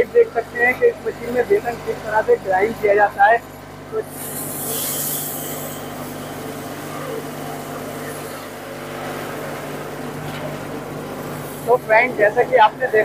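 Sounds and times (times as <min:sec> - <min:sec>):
grain mill humming: 0:00.4 - 0:13.0.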